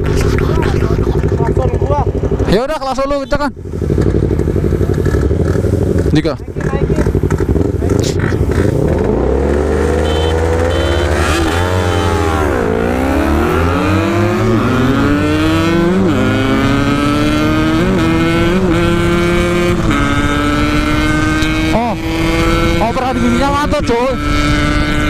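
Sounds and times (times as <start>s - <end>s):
two-stroke motorcycle accelerating: 0.0s - 25.0s.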